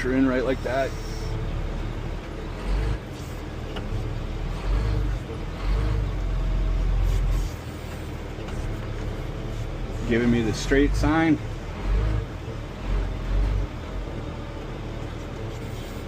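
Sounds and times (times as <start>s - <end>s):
tractor diesel engine rumble: 0.0s - 16.0s.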